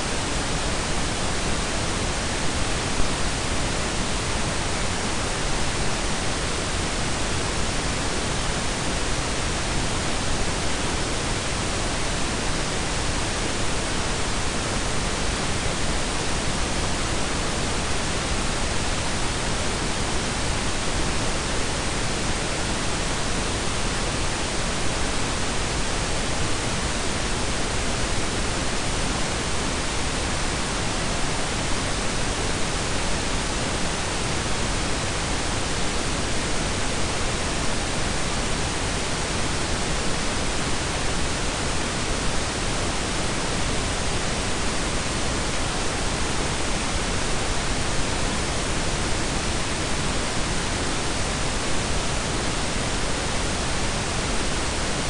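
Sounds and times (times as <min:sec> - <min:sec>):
pink and brown noise: 0:00.0 - 0:55.0.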